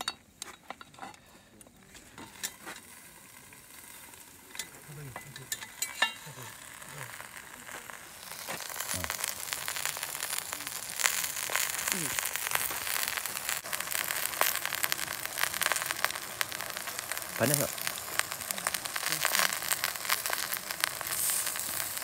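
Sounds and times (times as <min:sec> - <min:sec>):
food sizzling in a pot: 0:01.8 - 0:22.0.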